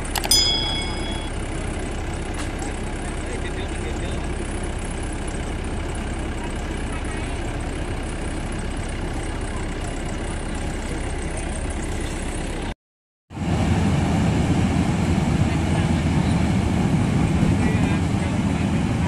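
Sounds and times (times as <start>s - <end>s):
combine harvester running: 0.0s - 12.8s, 13.4s - 19.0s.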